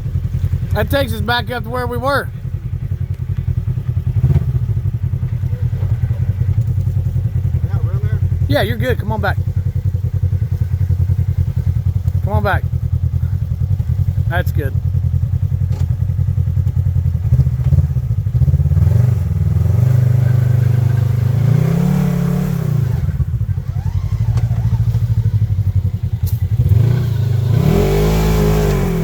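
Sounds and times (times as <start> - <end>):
utility vehicle engine revving: 0.0 - 29.0.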